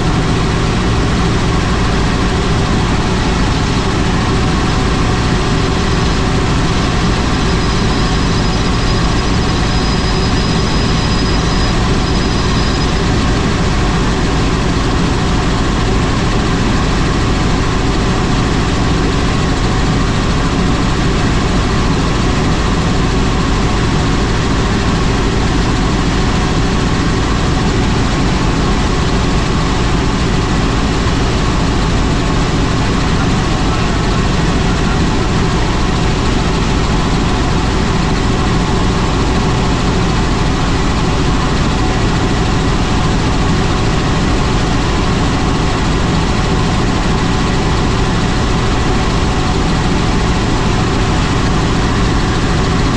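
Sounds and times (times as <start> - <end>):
helicopter engine and rotor: 0.0 - 52.9.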